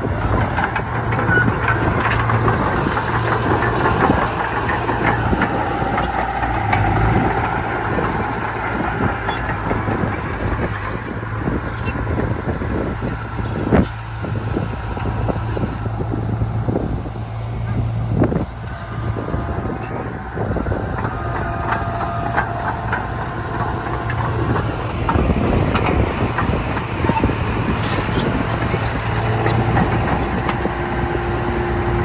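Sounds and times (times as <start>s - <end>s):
diesel engine drone: 0.0s - 32.0s
machinery clanks and rattles: 0.0s - 32.0s.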